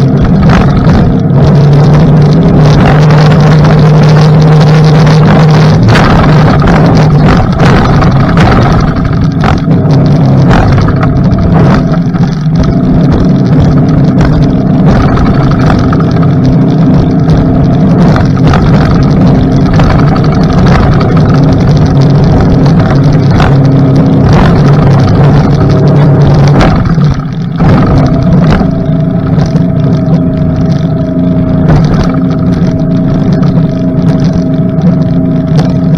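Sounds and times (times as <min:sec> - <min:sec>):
outboard motor running: 0:00.0 - 0:35.9
rushing water noise: 0:00.0 - 0:35.9.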